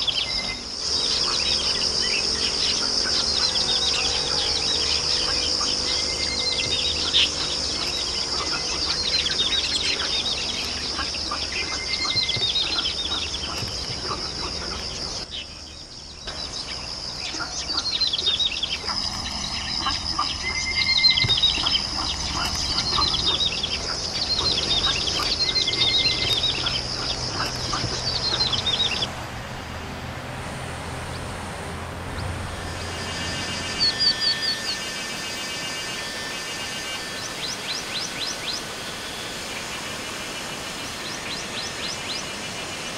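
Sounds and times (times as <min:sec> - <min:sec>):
birds chirping: 0:00.0 - 0:42.9
steady high-pitched buzz: 0:00.0 - 0:42.9.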